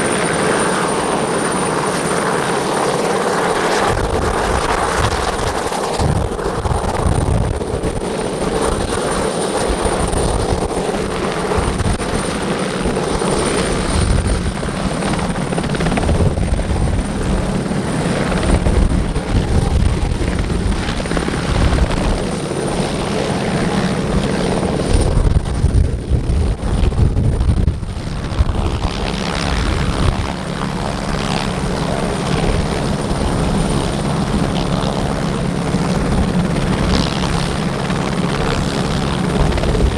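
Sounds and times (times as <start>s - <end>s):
helicopter rotor chopping: 0.0s - 39.9s
high turbine engine whine: 0.0s - 39.9s.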